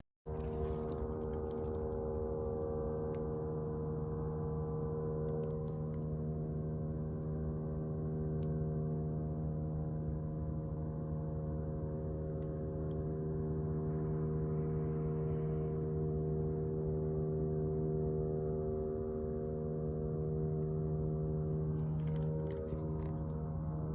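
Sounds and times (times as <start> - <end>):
steady low droning hum: 0.3 - 23.9.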